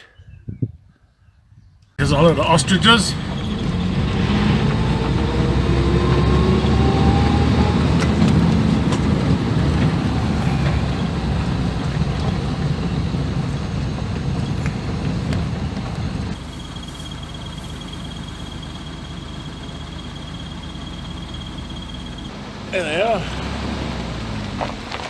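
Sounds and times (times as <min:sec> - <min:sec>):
engine and drivetrain rumble: 0:02.0 - 0:25.0.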